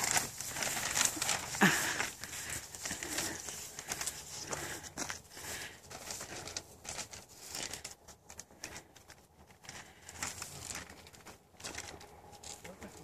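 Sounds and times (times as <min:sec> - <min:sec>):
plastic bag rustling: 0:00.0 - 0:13.0.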